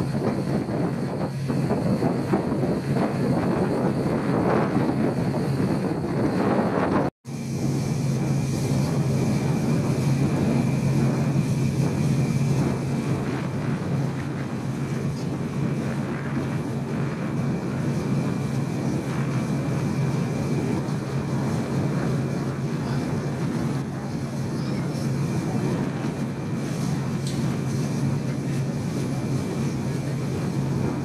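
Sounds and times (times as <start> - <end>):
ferry engines droning: 0.0 - 31.0
wind rushing: 0.0 - 31.0.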